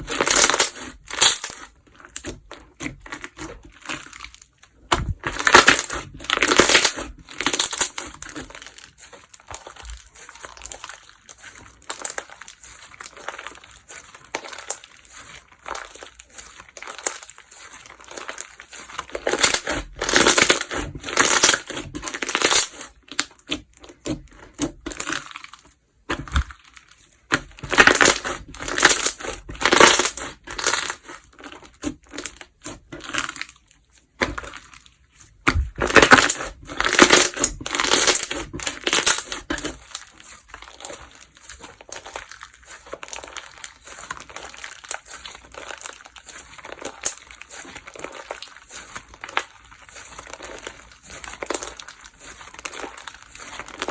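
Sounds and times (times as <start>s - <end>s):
slime crackling and popping: 0.0s - 53.9s.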